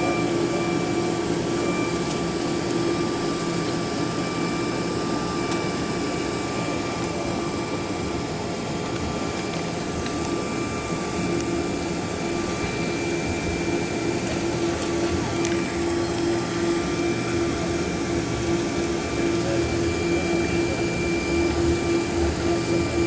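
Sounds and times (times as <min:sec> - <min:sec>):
jet engine whine: 0:00.0 - 0:23.0.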